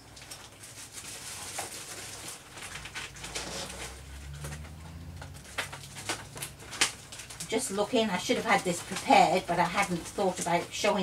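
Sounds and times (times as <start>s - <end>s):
papers and plastic pockets rustling: 0.0s - 11.0s.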